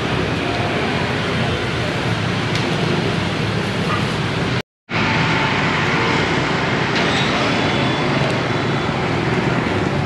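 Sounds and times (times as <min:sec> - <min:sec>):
road noise: 0:00.0 - 0:10.0
scooter and motorbike engines: 0:00.0 - 0:10.0.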